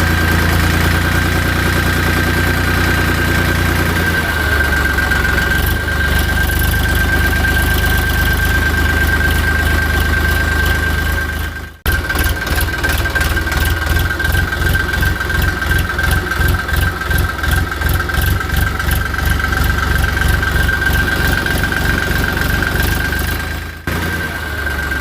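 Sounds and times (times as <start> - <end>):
toy tractor engine chugging: 0.0 - 25.0.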